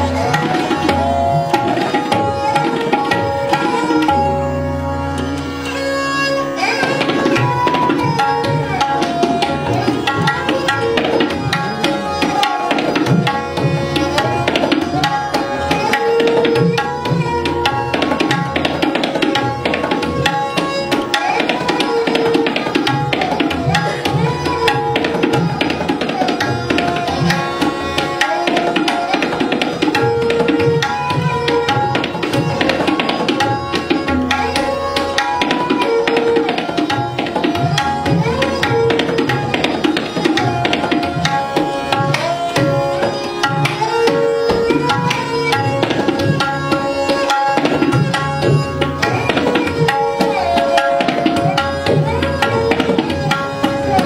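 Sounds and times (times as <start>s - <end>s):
held melodic notes: 0.0s - 54.0s
tabla strokes: 0.0s - 54.0s.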